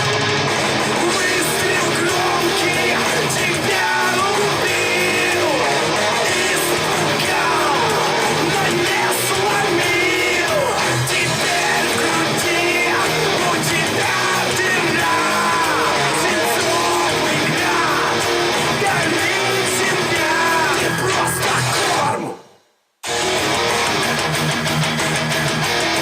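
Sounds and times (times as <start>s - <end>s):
song with singing over loudspeakers: 0.0s - 22.5s.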